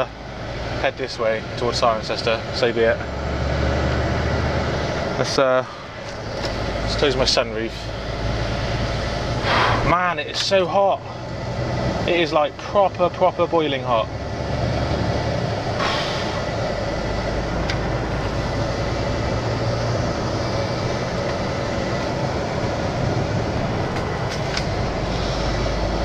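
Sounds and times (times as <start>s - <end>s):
lorry engine and road rumble: 0.0s - 26.0s.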